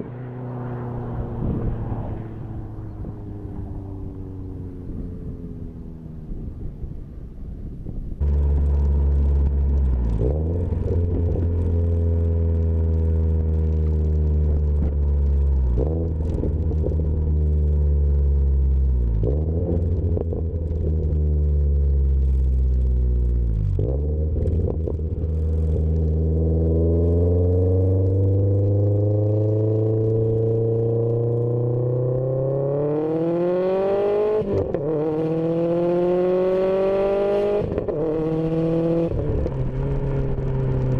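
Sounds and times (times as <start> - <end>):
car engine through exhaust: 0.0 - 40.9.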